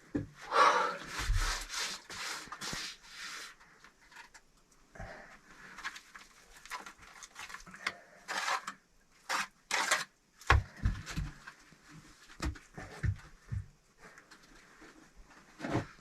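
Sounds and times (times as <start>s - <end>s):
handling rustles and scrapes: 1.0s - 4.6s, 5.3s - 10.1s, 10.7s - 16.0s.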